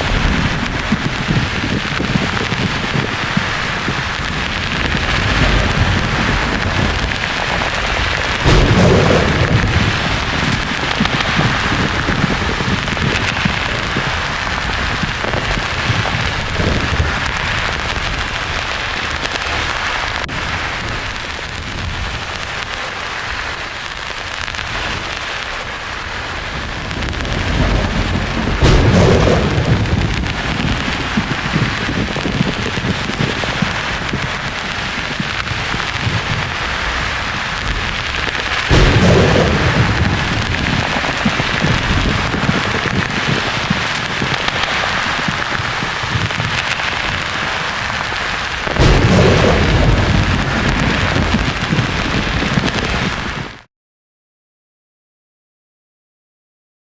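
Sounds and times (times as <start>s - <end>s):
rain-like hiss: 0.0s - 53.7s
thunder rumbling: 0.0s - 53.7s.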